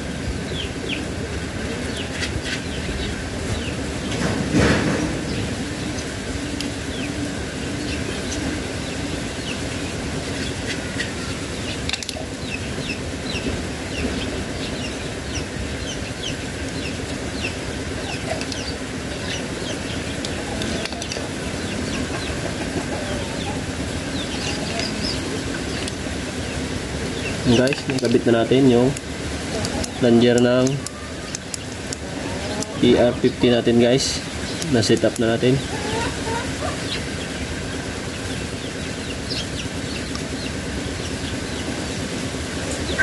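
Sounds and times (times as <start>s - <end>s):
low background hum: 0.0s - 43.0s.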